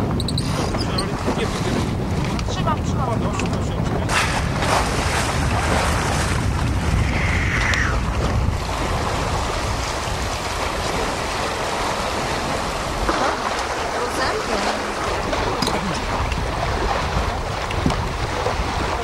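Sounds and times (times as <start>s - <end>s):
water washing along hull: 0.0s - 19.0s
wind buffeting microphone: 0.0s - 19.0s.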